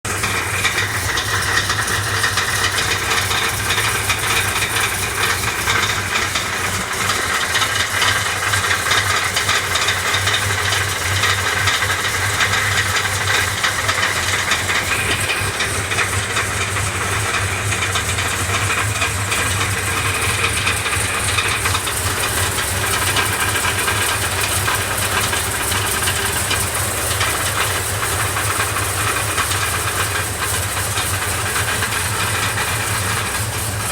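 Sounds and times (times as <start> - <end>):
car engine running: 0.0 - 33.9
fast metallic engine clatter: 0.0 - 33.9.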